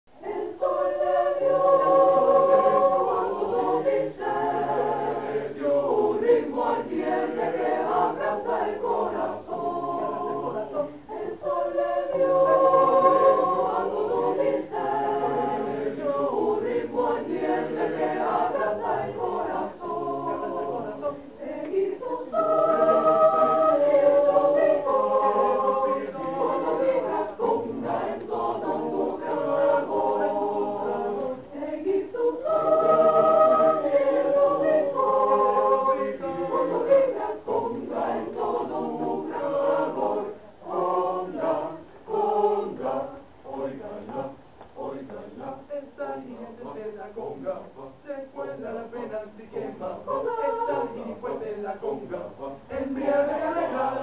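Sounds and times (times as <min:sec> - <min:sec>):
choir singing in harmony: 0:00.1 - 0:54.0.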